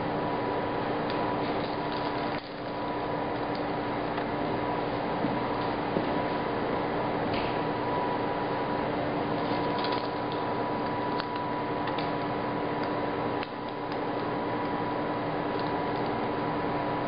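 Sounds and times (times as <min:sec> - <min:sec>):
air blower hiss and hum: 0:00.0 - 0:17.0.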